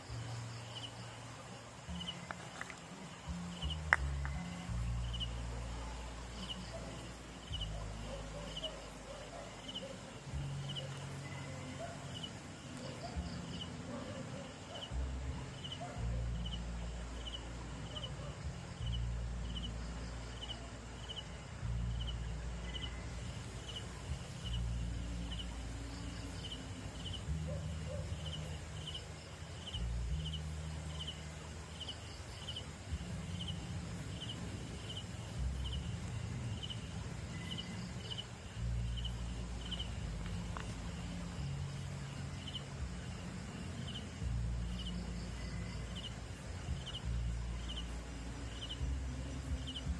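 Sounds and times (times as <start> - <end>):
cricket chirping: 0.0 - 49.9.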